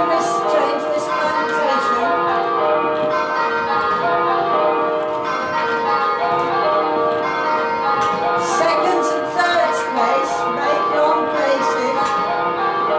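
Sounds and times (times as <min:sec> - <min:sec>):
church bells ringing: 0:00.0 - 0:12.9.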